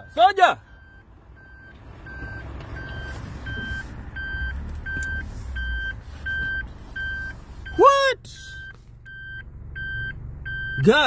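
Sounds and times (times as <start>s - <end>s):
low engine rumble: 0.0s - 11.0s
vehicle warning beeps: 0.0s - 11.0s.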